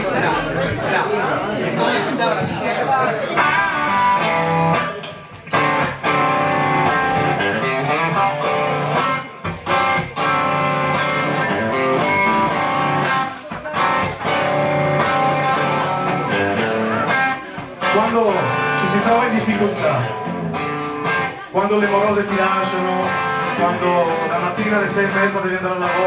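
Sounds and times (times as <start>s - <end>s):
electric guitar playing: 2.9s - 26.0s.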